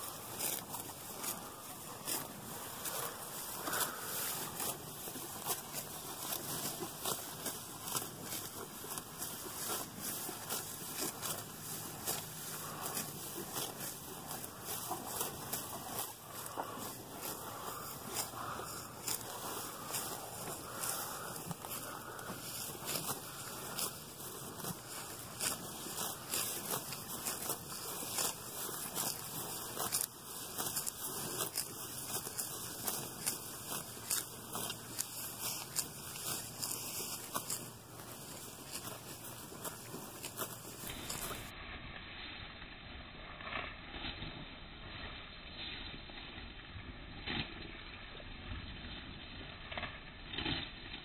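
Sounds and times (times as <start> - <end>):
cow tearing grass: 0.0 - 41.5, 43.2 - 51.0.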